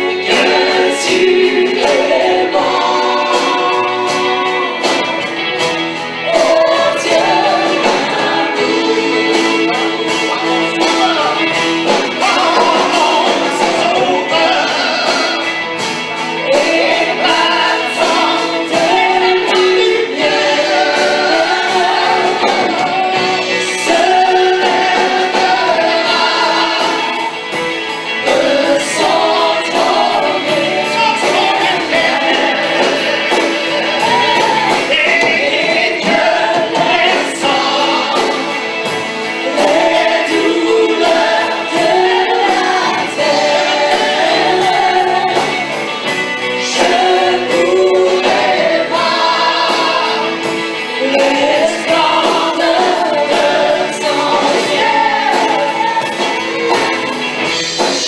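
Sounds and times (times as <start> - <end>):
women singing together: 0.0 - 5.6, 6.2 - 15.6, 16.3 - 58.0
keyboard: 0.0 - 58.0.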